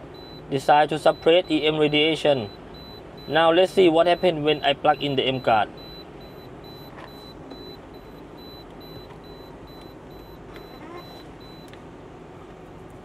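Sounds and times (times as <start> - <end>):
high alarm beeping: 0.1 - 11.7.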